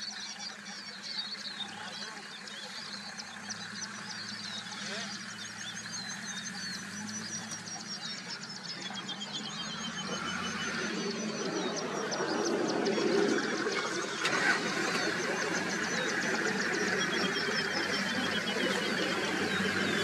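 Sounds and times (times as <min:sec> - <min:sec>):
wild birds chirping and whistling: 0:00.0 - 0:20.0.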